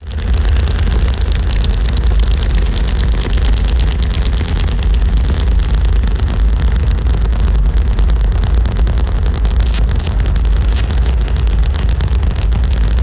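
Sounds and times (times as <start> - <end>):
harsh distorted noise music: 0.0 - 13.0
heavy low rumble: 0.0 - 13.0
rapid stuttering crackle: 0.0 - 13.0.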